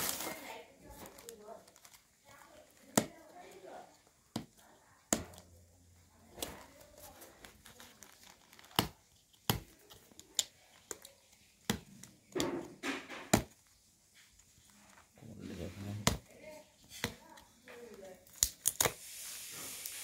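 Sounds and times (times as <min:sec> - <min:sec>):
cardboard crinkling and tearing: 0:00.0 - 0:04.7, 0:06.1 - 0:12.7, 0:13.4 - 0:20.0.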